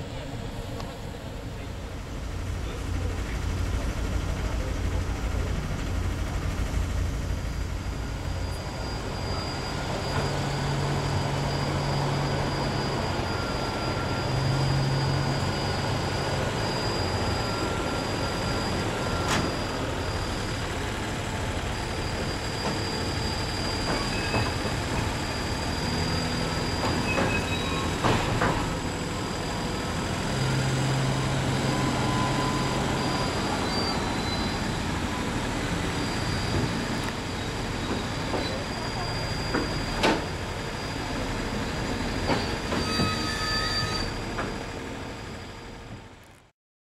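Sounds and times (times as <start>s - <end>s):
wheels rumbling on rails: 0.0s - 46.5s
high wheel squeal: 0.1s - 46.2s.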